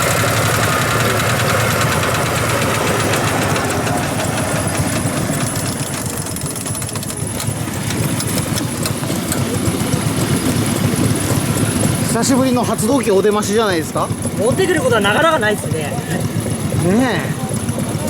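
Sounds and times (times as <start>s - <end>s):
engine idling with knocking beat: 0.0s - 18.0s.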